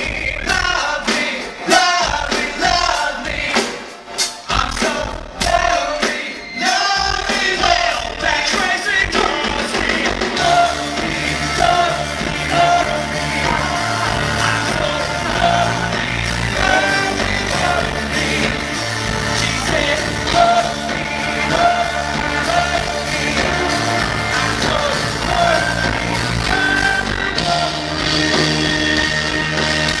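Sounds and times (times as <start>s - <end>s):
live rock band playing: 0.0s - 30.0s
person singing: 4.4s - 28.4s.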